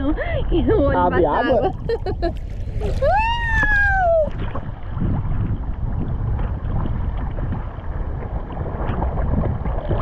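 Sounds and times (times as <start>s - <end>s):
muffled rumbling of sea water: 0.0s - 10.0s
wind on microphone: 0.0s - 10.0s.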